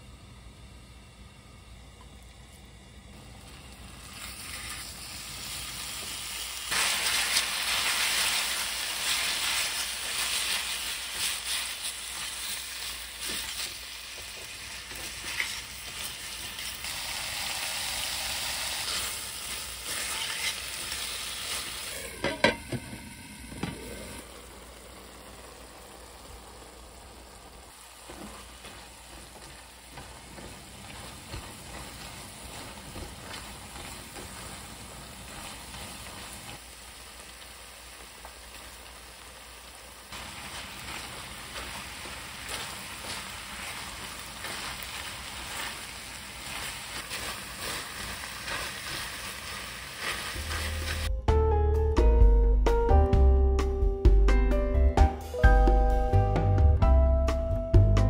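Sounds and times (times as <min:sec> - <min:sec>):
meat sizzling in a pan: 0:03.6 - 0:51.1.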